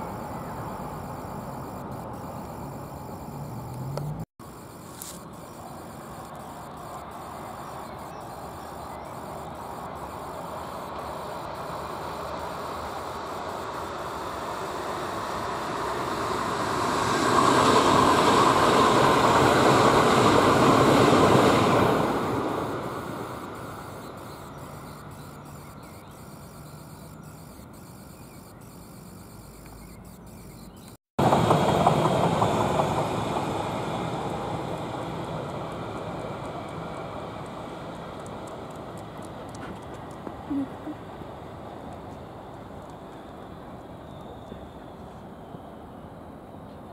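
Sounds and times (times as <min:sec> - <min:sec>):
vehicle passing with noisy rumble: 0:00.0 - 0:44.0.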